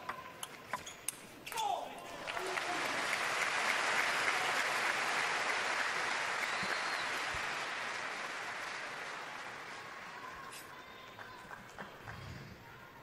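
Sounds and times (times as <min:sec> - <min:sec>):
crowd applauding: 0:02.1 - 0:12.5.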